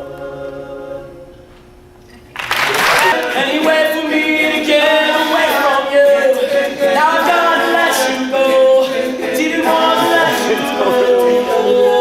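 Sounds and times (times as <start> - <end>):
vocal group singing in harmony: 0.0 - 1.4, 2.9 - 12.0.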